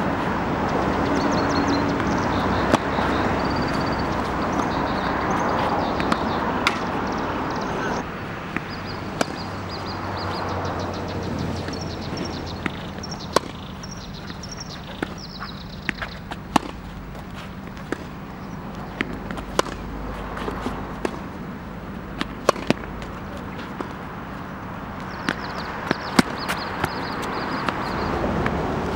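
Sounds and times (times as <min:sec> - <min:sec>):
tennis ball struck and bouncing: 0:00.0 - 0:28.9.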